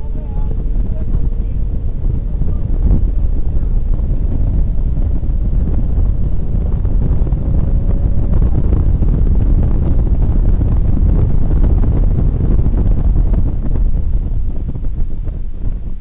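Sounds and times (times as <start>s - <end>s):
car engine rumble: 0.0s - 16.0s
road and wind noise: 0.0s - 16.0s.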